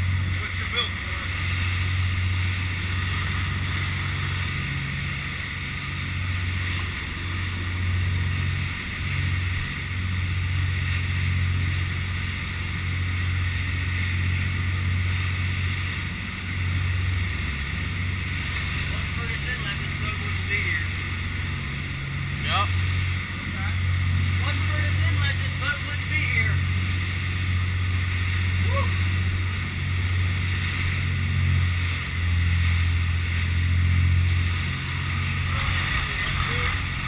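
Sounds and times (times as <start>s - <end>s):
boat diesel engines droning: 0.0s - 37.0s
wind and water rushing: 0.0s - 37.0s.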